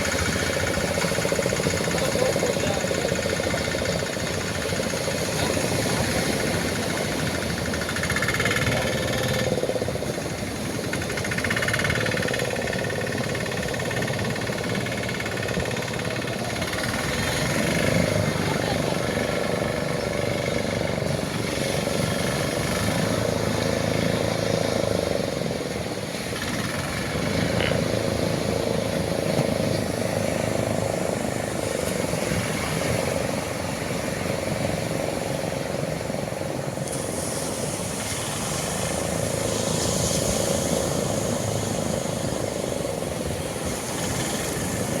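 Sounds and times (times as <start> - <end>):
motorboat engine droning: 0.0 - 45.0
water wash: 0.0 - 45.0.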